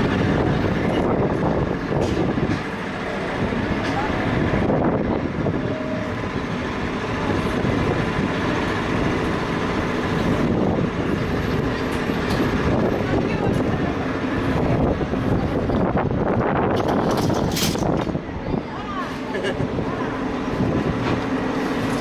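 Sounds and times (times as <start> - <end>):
funicular car rolling on rails: 0.0 - 22.0
street hubbub: 0.0 - 22.0.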